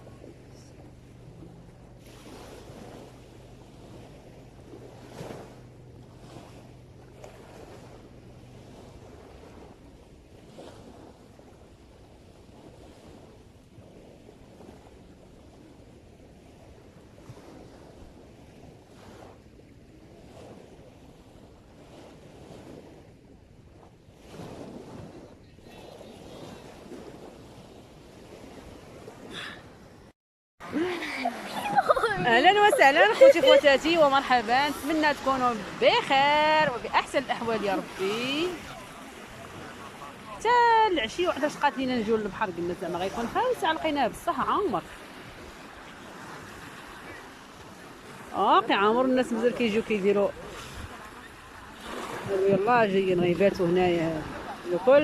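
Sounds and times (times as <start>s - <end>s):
wind on microphone: 0.0s - 30.1s, 30.7s - 55.0s
sea waves washing on shore: 0.0s - 55.0s.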